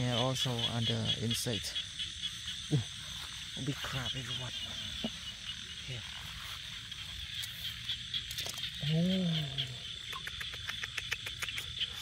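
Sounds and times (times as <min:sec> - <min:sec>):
frogs and insects trilling: 0:00.0 - 0:12.0
low frog call: 0:00.0 - 0:12.0.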